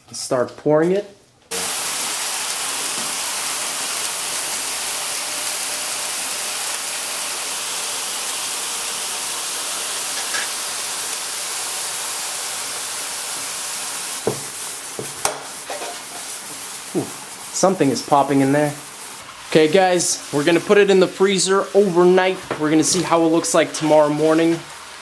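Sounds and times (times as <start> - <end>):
liquid nitrogen hissing: 1.5 - 25.0.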